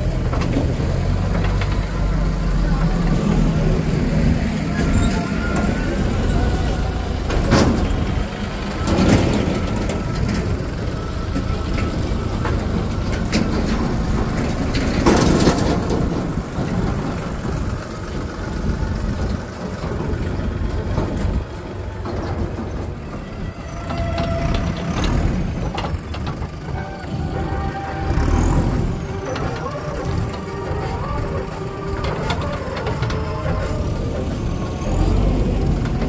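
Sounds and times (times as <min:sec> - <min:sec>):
diesel tractor engines running: 0:00.0 - 0:36.0.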